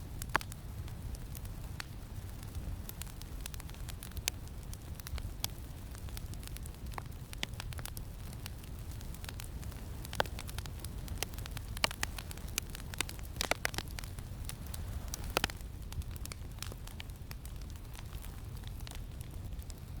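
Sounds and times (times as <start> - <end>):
campfire crackling and popping: 0.0 - 20.0
low wind rumble: 0.6 - 20.0.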